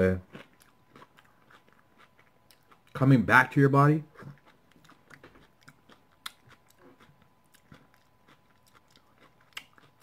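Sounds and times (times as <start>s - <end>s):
chewing crisp tostada: 0.0s - 3.2s, 3.9s - 10.0s.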